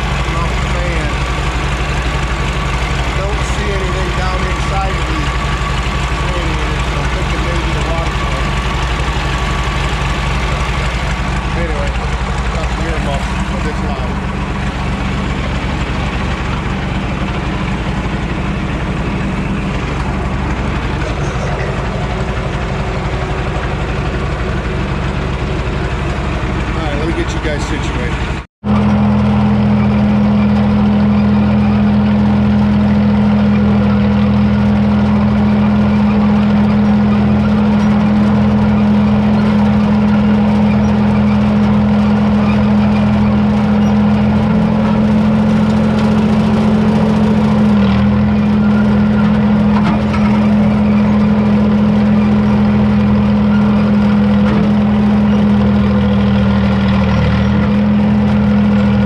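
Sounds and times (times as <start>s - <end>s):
diesel engine at high throttle: 0.0s - 59.0s.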